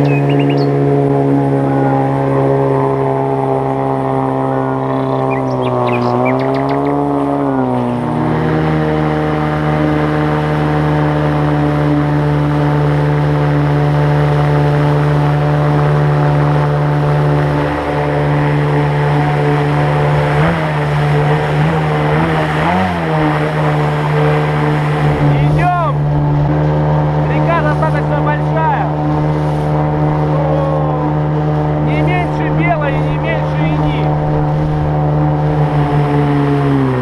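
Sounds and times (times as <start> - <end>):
outboard boat engine droning: 0.0 - 37.0.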